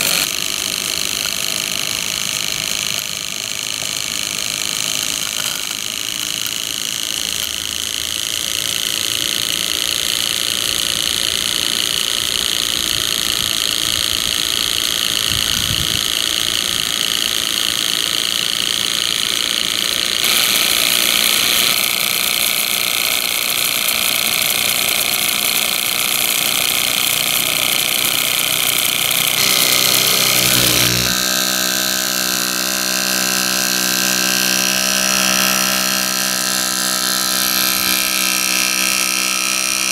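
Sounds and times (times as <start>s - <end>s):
small steam engine running: 0.0s - 39.9s.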